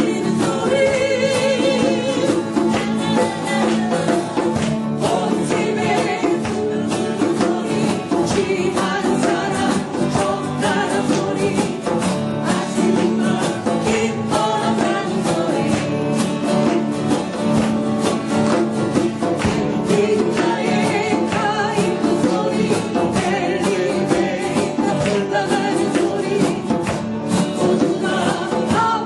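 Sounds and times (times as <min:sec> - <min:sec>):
band music with strummed guitar: 0:00.0 - 0:29.0.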